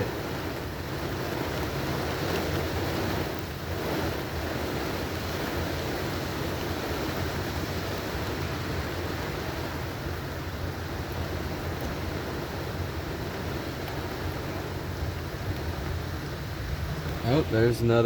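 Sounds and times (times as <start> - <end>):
heavy rain on a car: 0.0 - 18.0.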